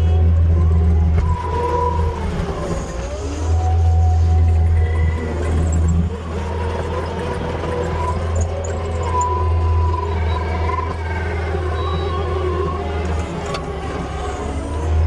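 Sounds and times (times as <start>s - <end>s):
loader engine droning: 0.0s - 15.0s
whine shifting in pitch: 0.0s - 15.0s.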